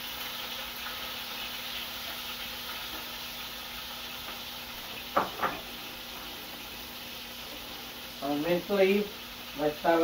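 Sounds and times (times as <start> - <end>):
faint constant hum: 0.0 - 10.0
oil sizzling in a pot: 0.0 - 10.0.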